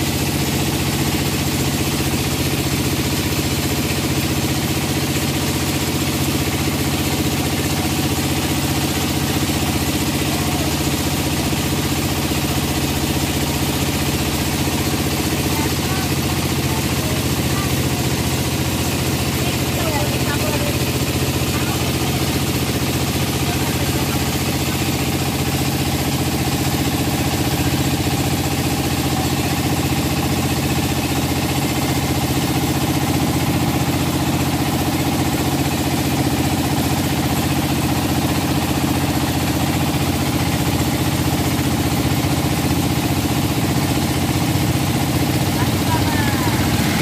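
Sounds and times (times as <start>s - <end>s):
motorboat engine running: 0.0s - 47.0s.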